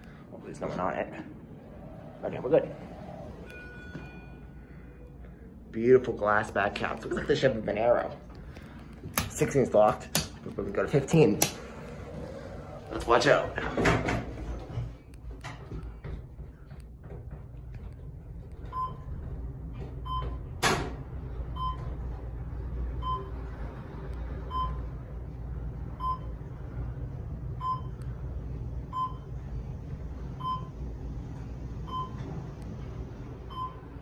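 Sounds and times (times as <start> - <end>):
elevator ride hum: 0.0 - 34.0.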